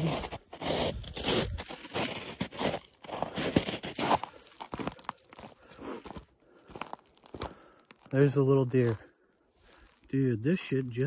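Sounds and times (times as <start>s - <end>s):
footsteps crunching in snow: 0.0s - 11.0s.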